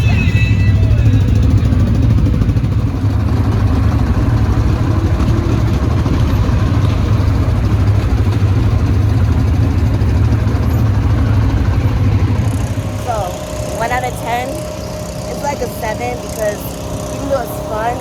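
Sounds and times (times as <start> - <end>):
atv engine idling: 0.0 - 18.0.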